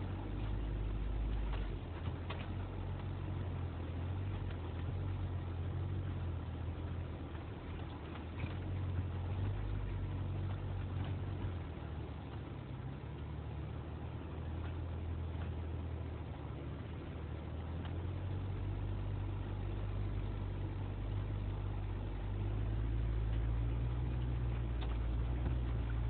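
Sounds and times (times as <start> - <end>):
engine low rumble: 0.0 - 26.0.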